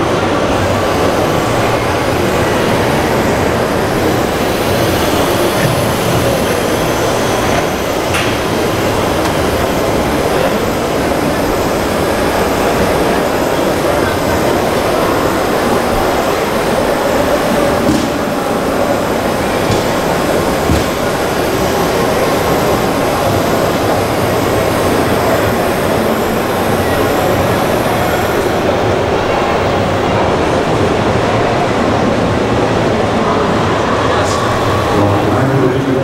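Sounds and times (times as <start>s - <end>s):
crowd din in a hall: 0.0s - 36.0s.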